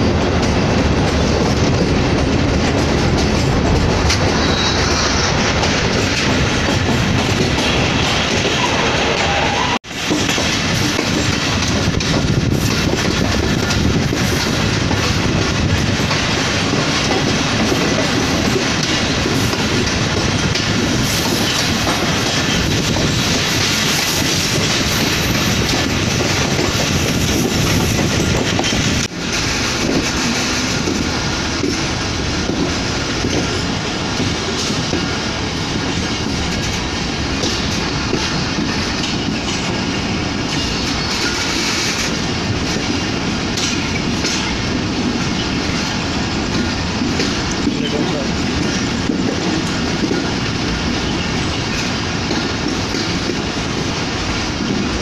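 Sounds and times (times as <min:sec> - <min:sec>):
train rumbling on rails: 0:00.0 - 0:55.0
wheels clattering over rail joints: 0:00.0 - 0:55.0.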